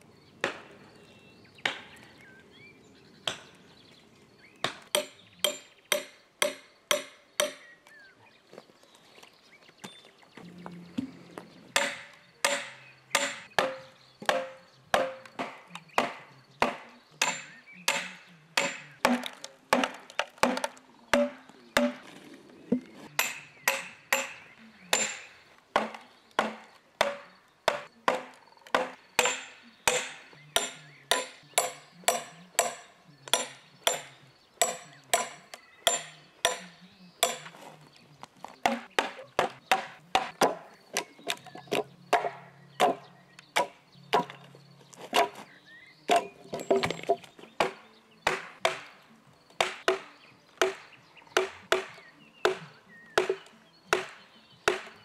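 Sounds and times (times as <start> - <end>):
hatchet chopping wood: 0.4 - 0.8, 1.6 - 2.1, 3.2 - 3.6, 4.6 - 7.8, 11.8 - 22.2, 23.1 - 37.8, 38.4 - 45.5, 46.1 - 55.0.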